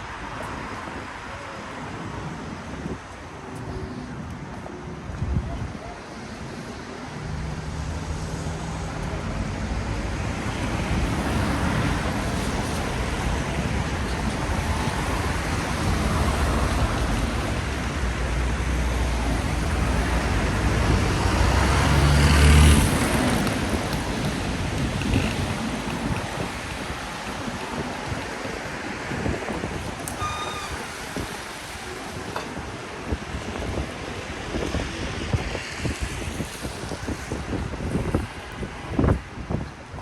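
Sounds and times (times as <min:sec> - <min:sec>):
tyres hissing on wet road: 0:06.0 - 0:39.9.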